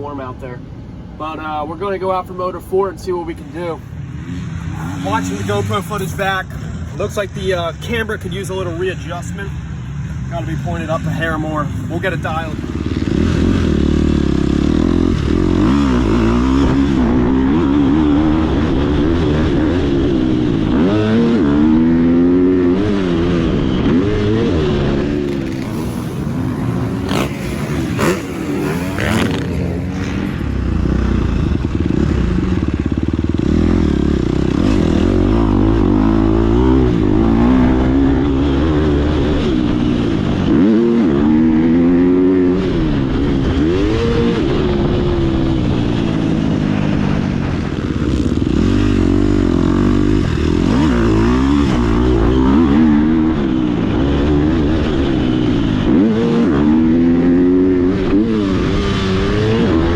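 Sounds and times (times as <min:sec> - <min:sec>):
motocross engine revving: 0:01.9 - 0:59.9.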